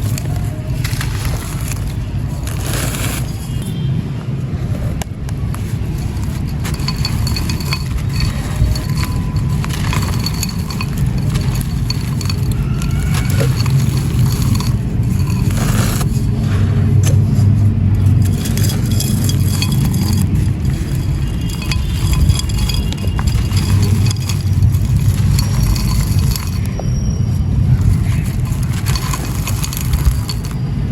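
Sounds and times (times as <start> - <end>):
sand and cement pot crunching: 0.0 - 3.7, 5.2 - 30.9.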